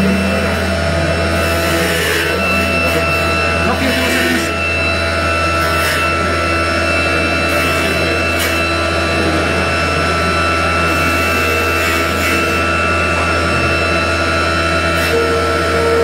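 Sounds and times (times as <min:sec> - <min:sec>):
wood lathe cutting: 0:00.0 - 0:16.0.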